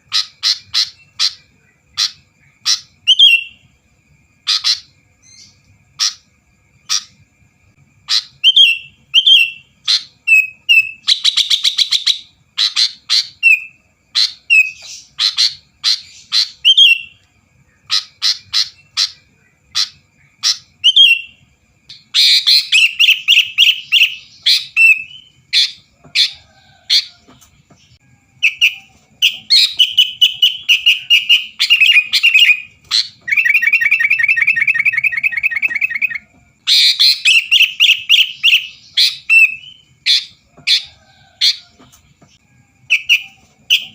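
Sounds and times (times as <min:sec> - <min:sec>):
bird chirping and trilling: 0:00.0 - 0:03.8, 0:04.4 - 0:07.3, 0:08.0 - 0:41.7, 0:42.3 - 0:43.9.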